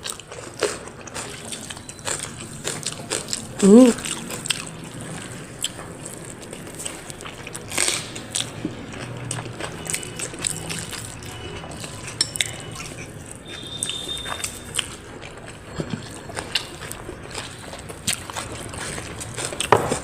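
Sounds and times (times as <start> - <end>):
close-up chewing: 0.0 - 20.0.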